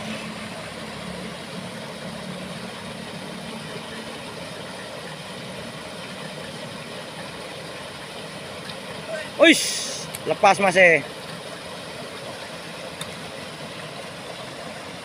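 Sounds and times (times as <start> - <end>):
water rushing over a weir: 0.0 - 15.0.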